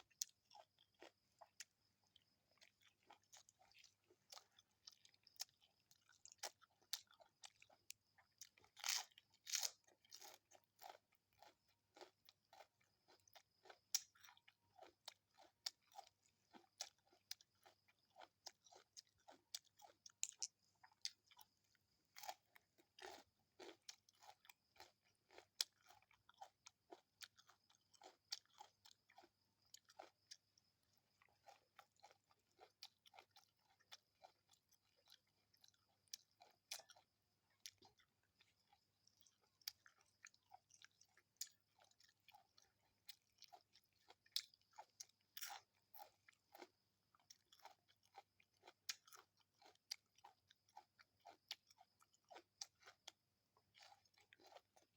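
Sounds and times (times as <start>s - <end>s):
person chewing and crunching: 0.0s - 54.9s.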